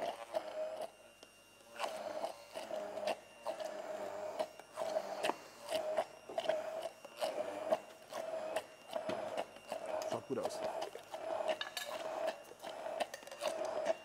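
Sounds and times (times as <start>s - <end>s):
immersion blender motor whine: 0.0s - 14.0s.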